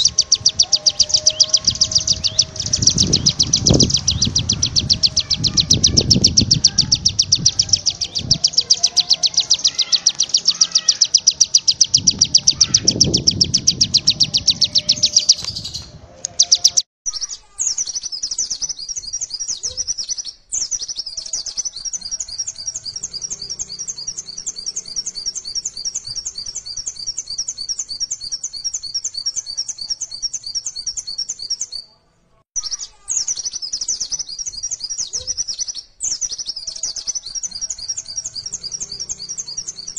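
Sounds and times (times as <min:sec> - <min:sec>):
songbirds rapid high chirps: 0:00.0 - 0:32.0, 0:32.6 - 0:39.9.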